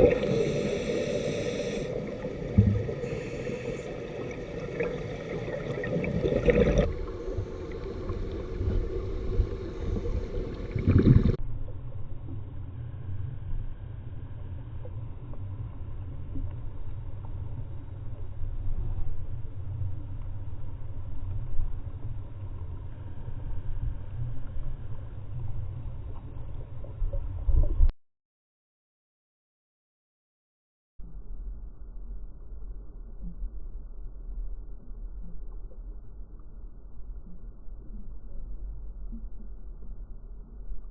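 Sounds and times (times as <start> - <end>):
underwater rumble and gurgling: 0.0 - 27.9, 31.0 - 40.9.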